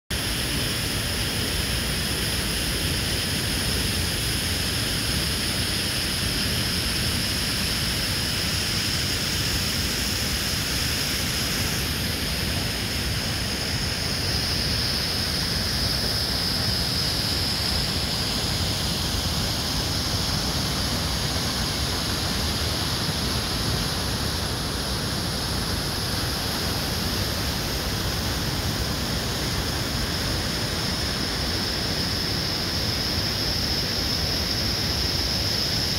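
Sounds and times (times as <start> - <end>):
river rapids roaring: 6.0 - 35.9.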